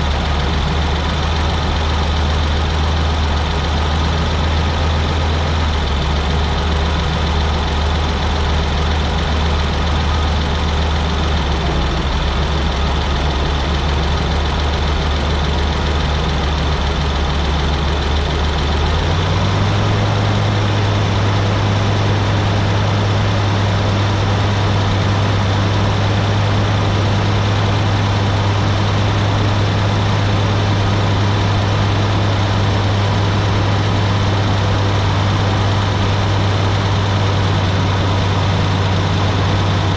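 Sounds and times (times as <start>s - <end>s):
farm machinery engine hum: 0.0s - 39.9s.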